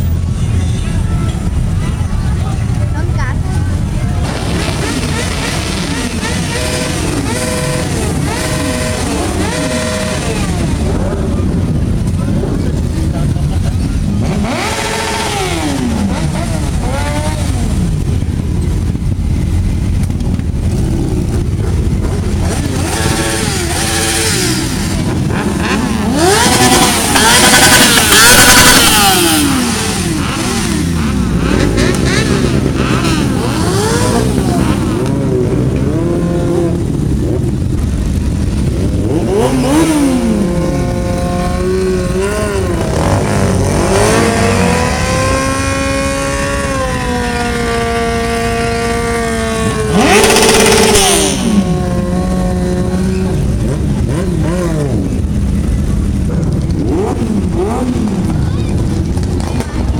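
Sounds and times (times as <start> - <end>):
car engines revving past: 3.7 - 59.9.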